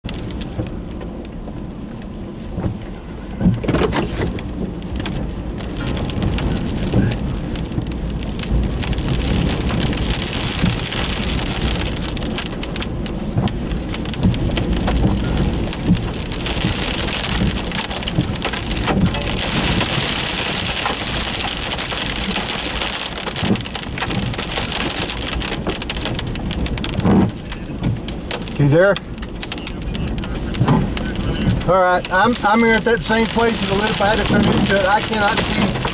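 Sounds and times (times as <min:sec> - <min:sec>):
wind gusts buffeting a vehicle: 0:00.0 - 0:35.9
debris pelting vehicle body: 0:03.5 - 0:35.9.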